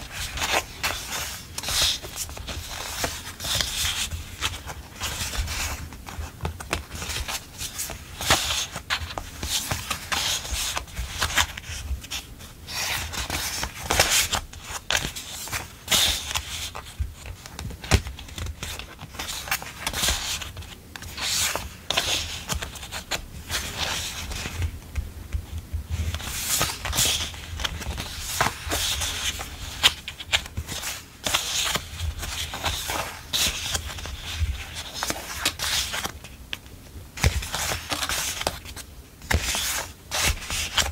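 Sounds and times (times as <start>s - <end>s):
paper sheets rustling: 0.0s - 36.4s, 37.2s - 40.9s.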